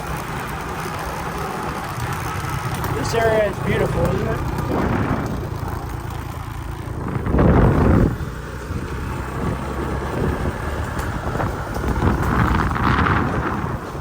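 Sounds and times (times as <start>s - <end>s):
motorcycle engine running: 0.0s - 14.0s
wind buffeting microphone: 1.7s - 14.0s.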